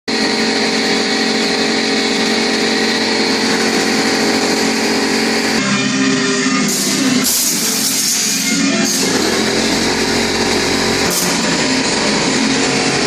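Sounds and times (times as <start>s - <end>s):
machine motor humming: 0.1s - 13.0s.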